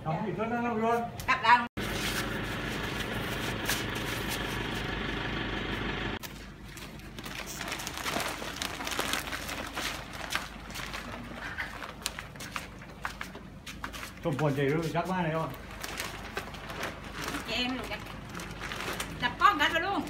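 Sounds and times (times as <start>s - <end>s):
steady mechanical hum: 1.2s - 20.0s.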